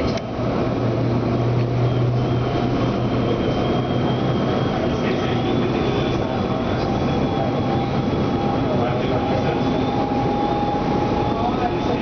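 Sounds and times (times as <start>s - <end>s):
low hum: 0.0s - 12.0s
train rumbling: 0.0s - 12.0s
faint high whine: 1.4s - 12.0s.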